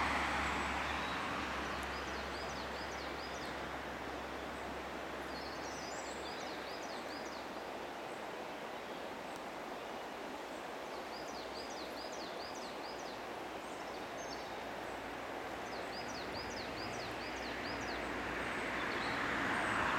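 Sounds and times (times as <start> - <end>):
flowing river water: 0.0 - 19.9.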